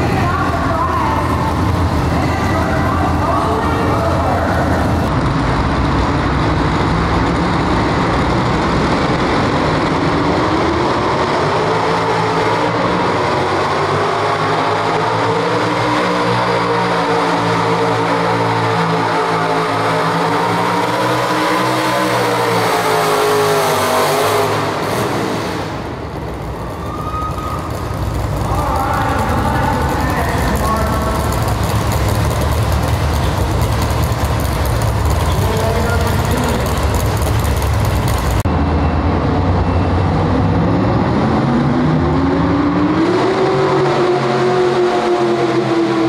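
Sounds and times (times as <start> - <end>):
truck engine running hard: 0.0 - 46.0.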